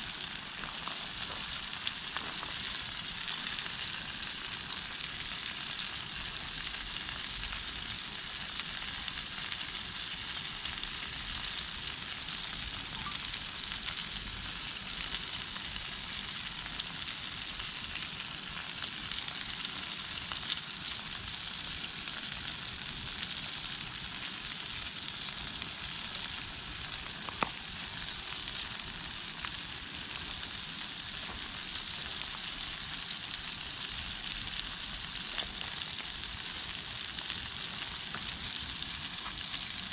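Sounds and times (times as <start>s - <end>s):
meat sizzling over campfire: 0.0s - 39.9s.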